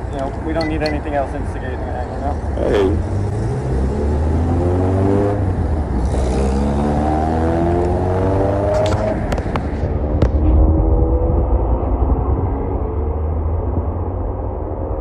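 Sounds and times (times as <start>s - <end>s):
engines accelerating: 0.0s - 15.0s
traffic passing: 0.0s - 15.0s.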